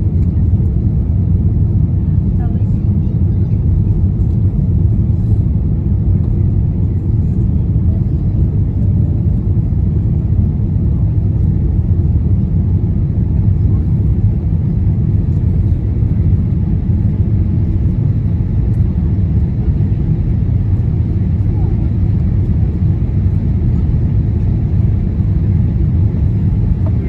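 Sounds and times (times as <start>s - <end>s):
jet engine low rumble: 0.0s - 27.0s.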